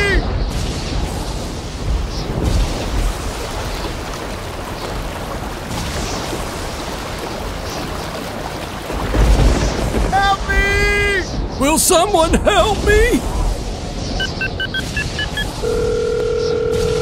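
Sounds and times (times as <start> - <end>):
heavy rain falling: 0.0 - 16.3.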